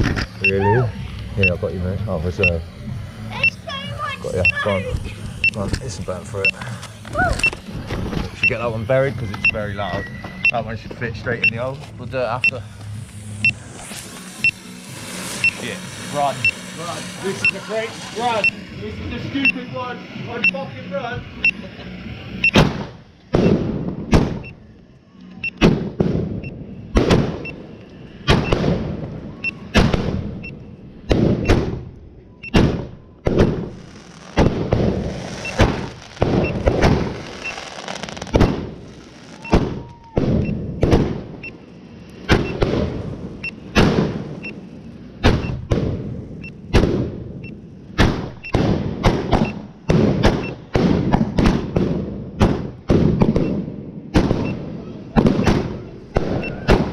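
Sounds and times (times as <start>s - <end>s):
fireworks barrage bangs: 3.3s - 20.5s, 22.4s - 24.5s, 25.5s - 56.9s.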